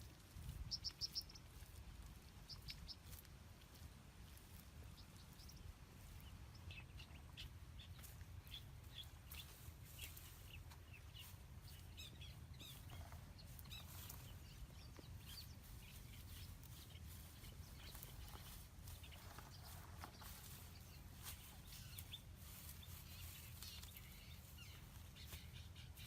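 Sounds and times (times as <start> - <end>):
faint high bird chirps: 0.4 - 1.8, 2.4 - 3.2, 4.9 - 26.0.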